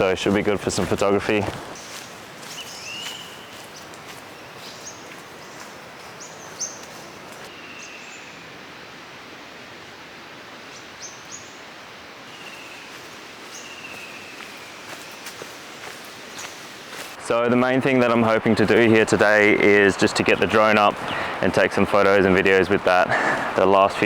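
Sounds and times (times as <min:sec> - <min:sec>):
bird calls: 0:00.0 - 0:08.5, 0:12.3 - 0:17.2, 0:18.0 - 0:24.0
background hiss: 0:00.0 - 0:24.0.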